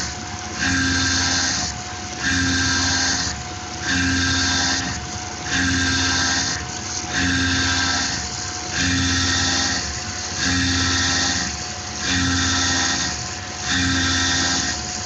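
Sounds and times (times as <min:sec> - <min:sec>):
mill cutting aluminium: 0:00.0 - 0:15.0.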